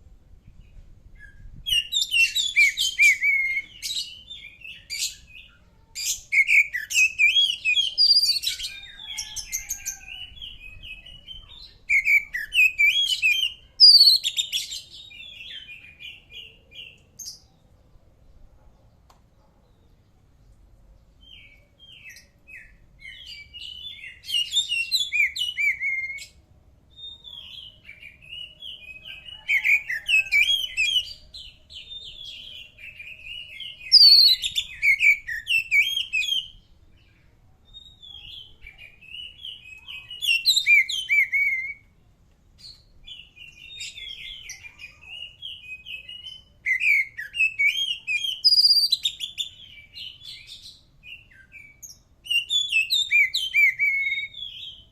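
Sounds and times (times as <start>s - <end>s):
bird singing whistled phrases: 1.2s - 16.2s, 21.3s - 36.6s, 37.7s - 41.9s, 43.1s - 54.9s.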